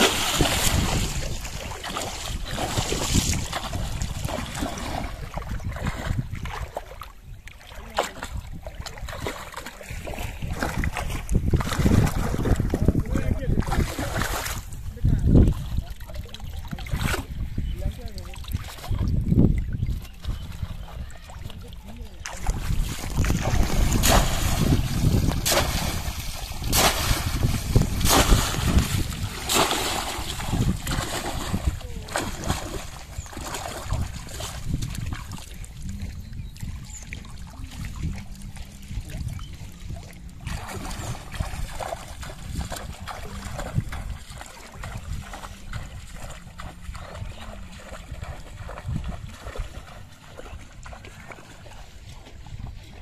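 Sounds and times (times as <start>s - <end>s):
muddy water splashing: 0.0s - 53.0s
wind rumbling on microphone: 0.0s - 53.0s.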